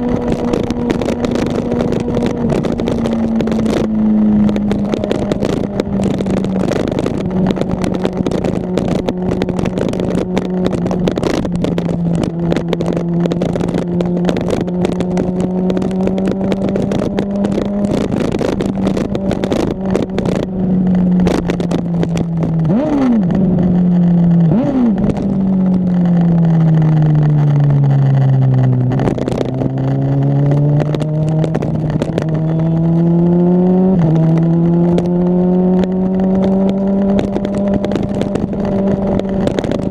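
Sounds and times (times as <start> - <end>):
motorcycle engine revving: 0.0 - 39.9
wind buffeting microphone: 0.0 - 39.9.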